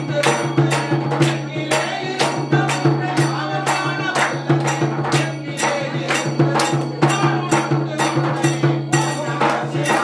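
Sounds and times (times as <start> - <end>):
devotional singing: 0.0 - 10.0
sharp percussive strokes: 0.0 - 10.0.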